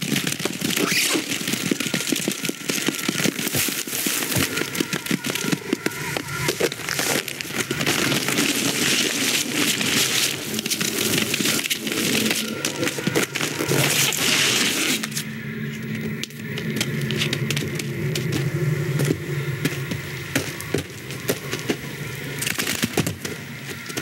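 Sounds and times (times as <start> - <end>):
dense crackling and clicking: 0.0 - 24.0.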